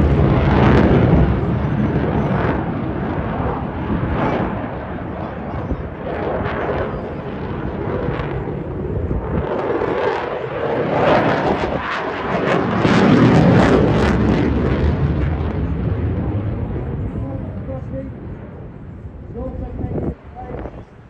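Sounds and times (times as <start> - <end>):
fighter jet engines roaring: 0.0 - 21.0.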